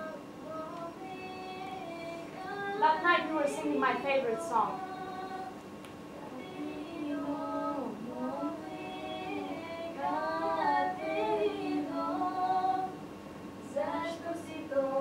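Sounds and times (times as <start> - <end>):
woman singing unaccompanied: 0.0 - 13.0, 13.6 - 15.0.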